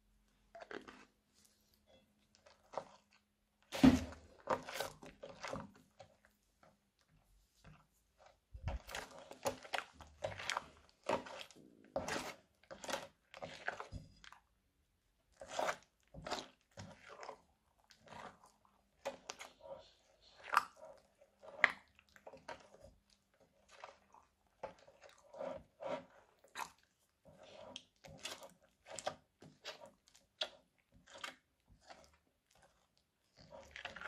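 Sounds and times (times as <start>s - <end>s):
spatula squelching slime: 0.0s - 34.0s.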